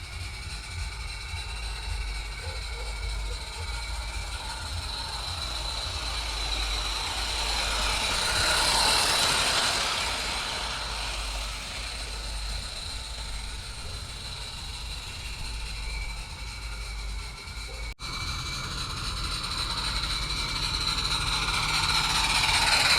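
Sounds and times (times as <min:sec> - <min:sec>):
steam exhaust hissing: 0:00.0 - 0:22.9
wheels clicking over track: 0:00.0 - 0:22.9.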